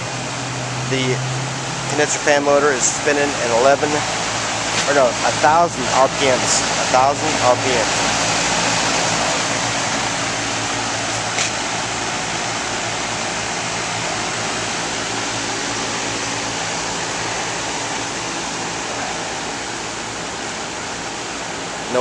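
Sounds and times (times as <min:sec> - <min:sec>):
fan blowing air rushing: 0:00.0 - 0:22.0.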